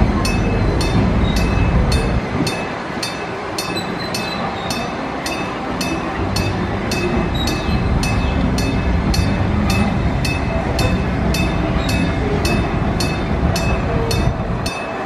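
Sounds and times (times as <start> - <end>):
train rumbling over crossing: 0.0 - 15.0.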